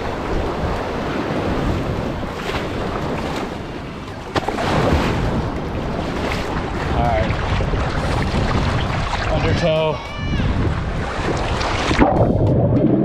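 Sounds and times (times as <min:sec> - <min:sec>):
ocean surf washing on beach: 0:00.0 - 0:12.6
wind buffeting microphone: 0:00.0 - 0:13.0.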